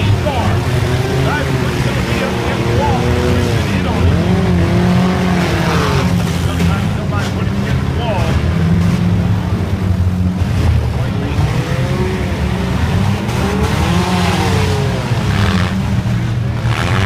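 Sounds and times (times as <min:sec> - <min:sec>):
car engines revving loud: 0:00.0 - 0:17.0.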